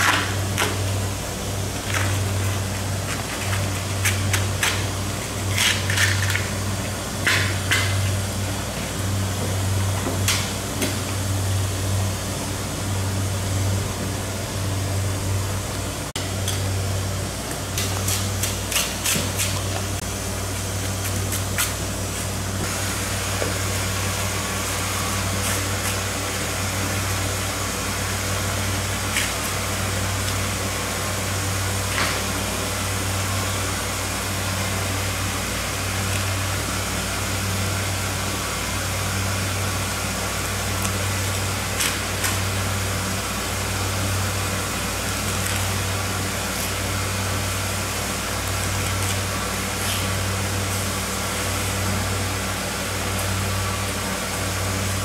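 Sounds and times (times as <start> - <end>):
low mechanical hum with hiss: 0.0 - 55.0.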